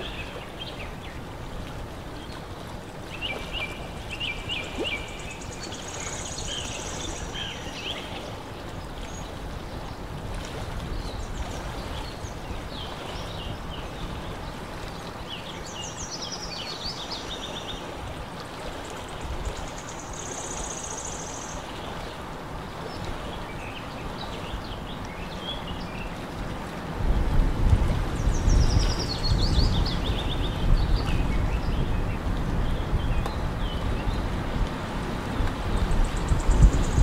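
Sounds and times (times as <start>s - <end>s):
wind and water on lake: 0.0s - 37.0s
wind rumble on microphone: 0.0s - 37.0s.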